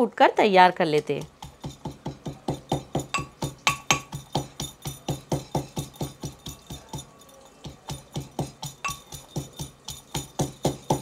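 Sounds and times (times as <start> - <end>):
metal pestle pounding in mortar: 0.9 - 11.0.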